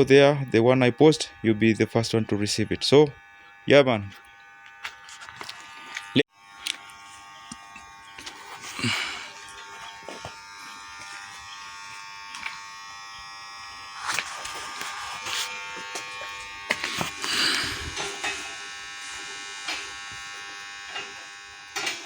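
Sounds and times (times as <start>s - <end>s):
machine electric buzz: 0.0s - 22.0s.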